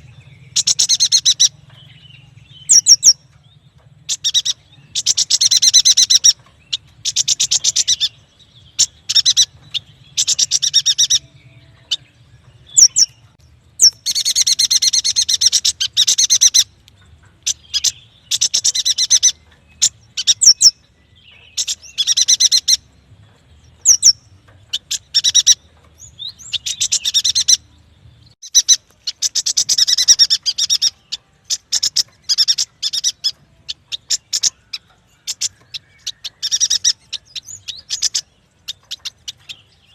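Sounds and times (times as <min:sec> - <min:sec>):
bird chattering trills: 0:00.0 - 0:27.7, 0:28.4 - 0:39.9.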